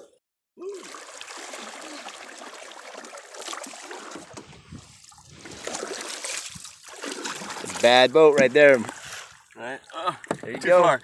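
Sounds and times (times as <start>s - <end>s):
water splashing around kayak: 0.7s - 11.0s.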